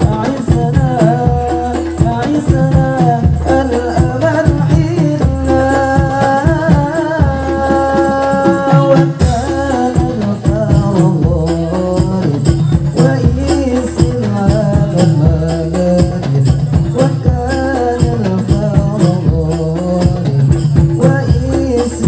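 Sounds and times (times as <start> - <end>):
frame drums beating: 0.0 - 22.0
man singing into microphone: 0.0 - 22.0.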